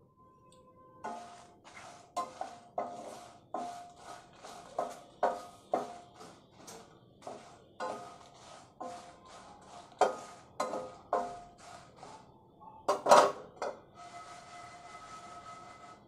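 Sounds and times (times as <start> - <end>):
spatula scraping chillies in pan: 1.0 - 12.3, 12.9 - 16.0.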